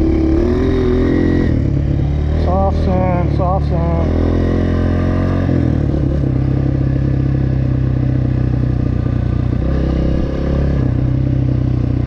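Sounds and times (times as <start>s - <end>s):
dirt bike engine under throttle: 0.0s - 12.0s.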